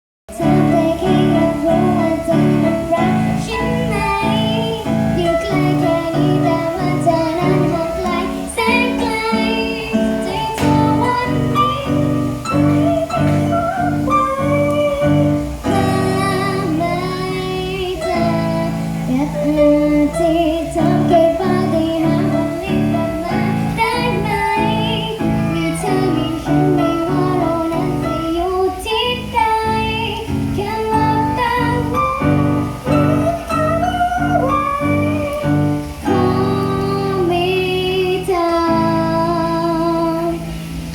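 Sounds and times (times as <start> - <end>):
young woman singing pop song: 0.3 - 40.9.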